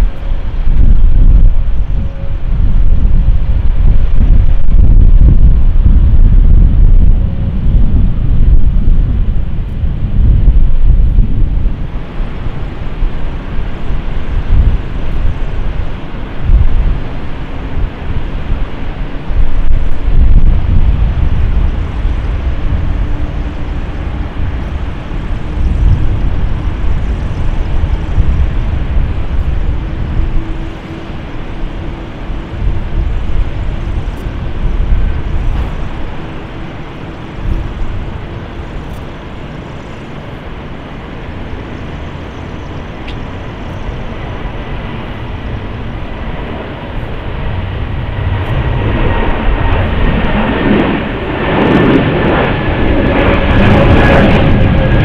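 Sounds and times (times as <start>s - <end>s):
jet engine roar: 0.0s - 55.0s
jet engine whine: 0.0s - 55.0s
wind buffeting microphone: 0.0s - 55.0s.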